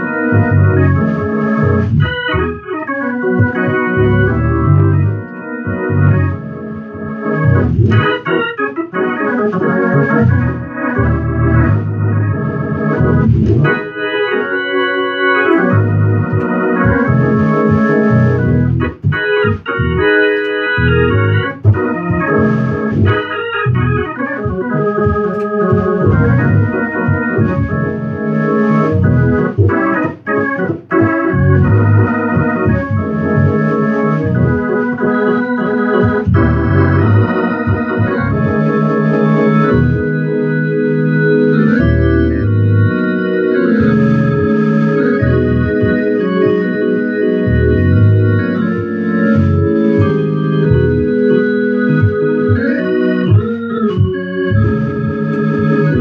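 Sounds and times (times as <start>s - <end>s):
organ chords with bass line: 0.0s - 56.0s.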